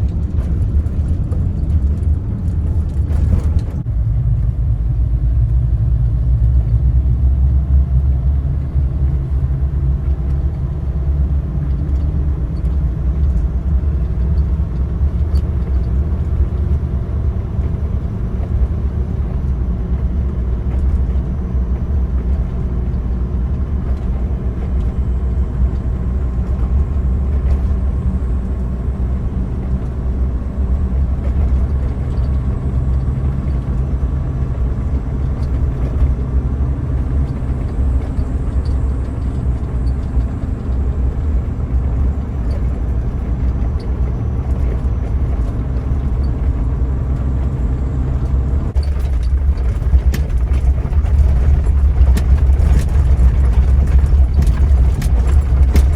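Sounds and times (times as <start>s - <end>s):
car engine rumbling: 0.0s - 55.9s
road noise: 0.0s - 55.9s.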